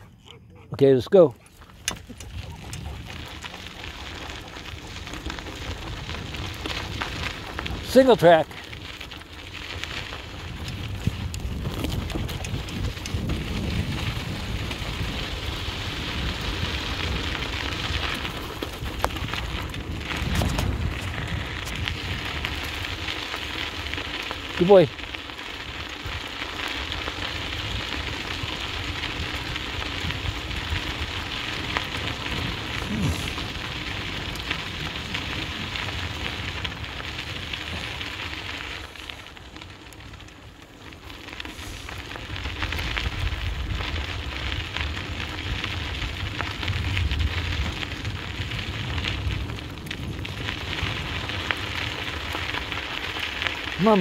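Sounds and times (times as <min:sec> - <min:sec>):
wheels rolling over dirt: 0:00.0 - 0:54.0.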